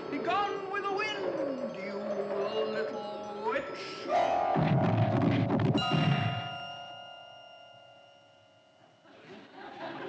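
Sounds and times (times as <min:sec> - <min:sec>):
bell-like metallic chime: 0:00.0 - 0:09.7.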